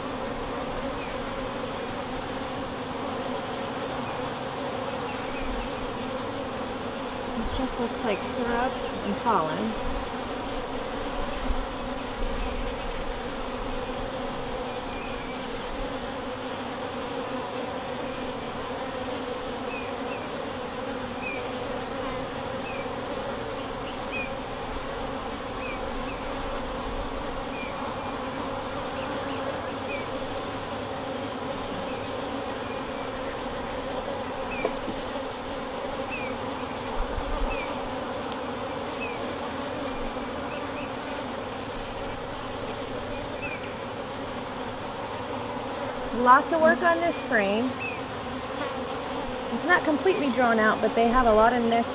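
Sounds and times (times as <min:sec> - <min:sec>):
bees buzzing: 0:00.0 - 0:51.9.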